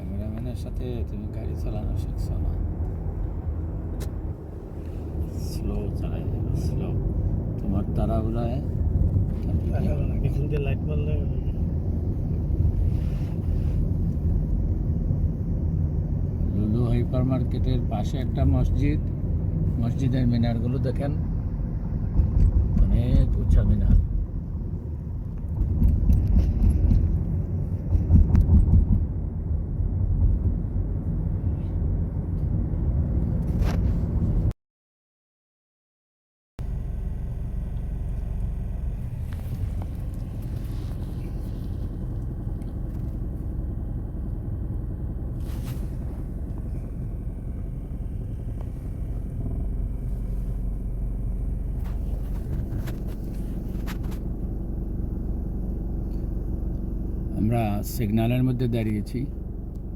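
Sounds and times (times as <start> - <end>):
car road and engine rumble: 0.0 - 34.6, 36.6 - 59.9.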